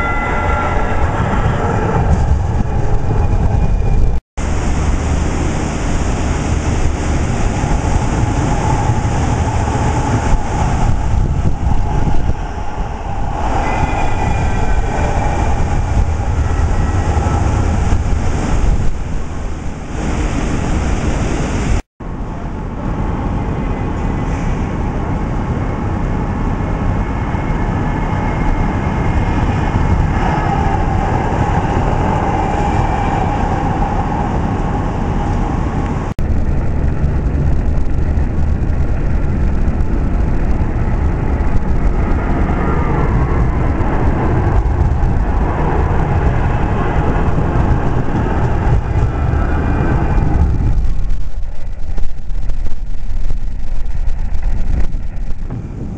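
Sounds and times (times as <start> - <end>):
tram rumbling along tracks: 0.0 - 55.9.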